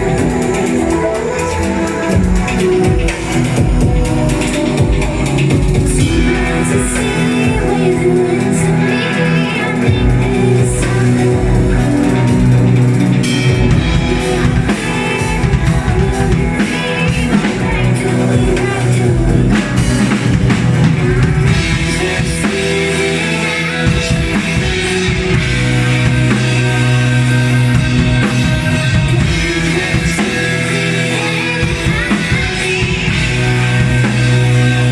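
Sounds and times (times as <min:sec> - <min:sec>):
distorted electric guitar: 0:00.0 - 0:34.9
loud drum kit: 0:00.0 - 0:34.9
rock band playing live: 0:00.0 - 0:34.9.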